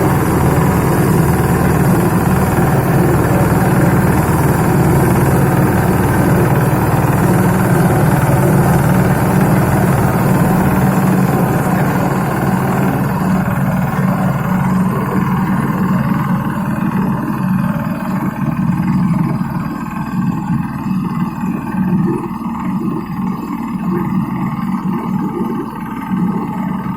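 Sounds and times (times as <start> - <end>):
road roller engine running: 0.0 - 26.9.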